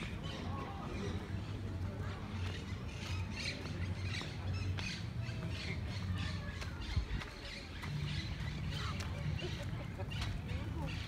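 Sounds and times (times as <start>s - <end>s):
footsteps on cobbles: 1.4s - 11.0s.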